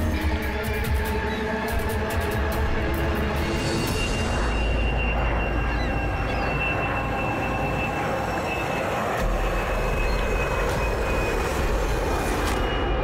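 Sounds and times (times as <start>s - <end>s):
small plane engine droning: 0.0s - 13.0s.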